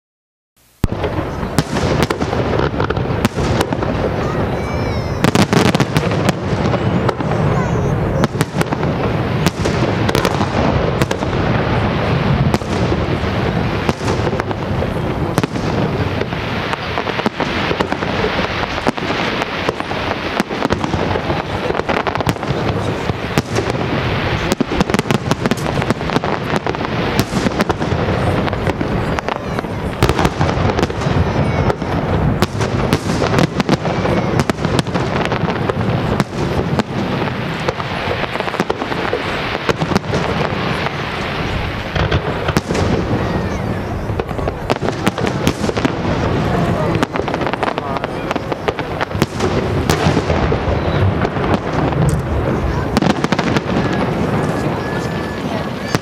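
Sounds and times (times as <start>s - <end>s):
firework crackling: 0.6s - 56.0s.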